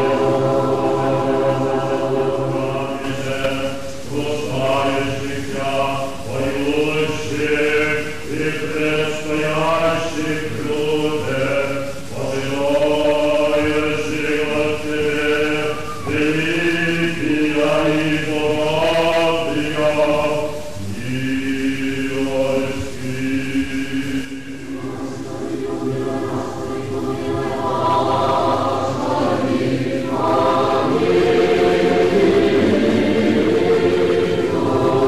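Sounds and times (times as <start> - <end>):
choir chanting unaccompanied: 0.0 - 35.0.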